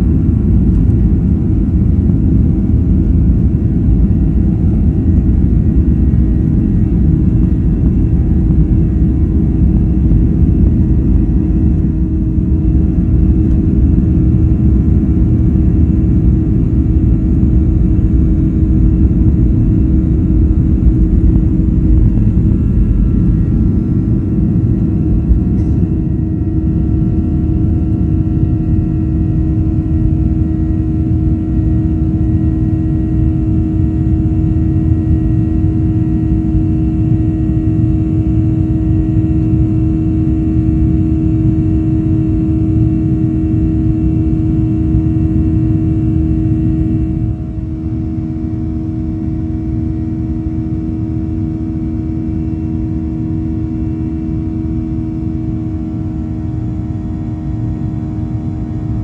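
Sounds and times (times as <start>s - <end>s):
jet engines roaring: 0.0s - 51.1s
steady hum: 0.0s - 59.0s.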